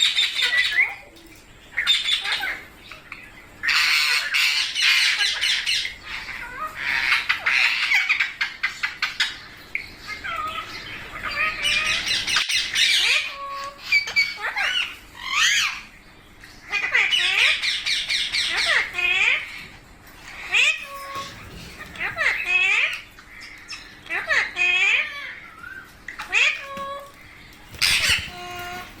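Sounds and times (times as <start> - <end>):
parakeets screeching and squawking: 0.0 - 29.0.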